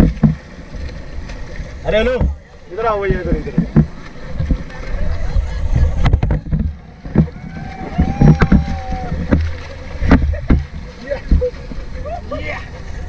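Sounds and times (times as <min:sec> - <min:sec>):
rushing river water: 0:00.0 - 0:13.0
wind rumbling on microphone: 0:00.0 - 0:13.0.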